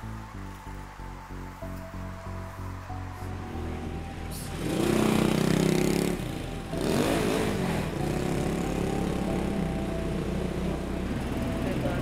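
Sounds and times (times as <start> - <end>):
engine rising in pitch: 0.0 - 12.0
vehicles passing close by: 0.0 - 12.0.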